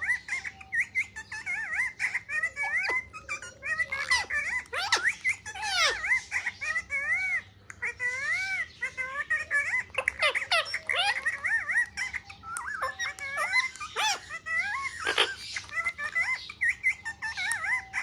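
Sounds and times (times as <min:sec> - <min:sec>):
parrot chattering and whistling: 0:00.0 - 0:18.0
parrot squawks: 0:00.0 - 0:18.0.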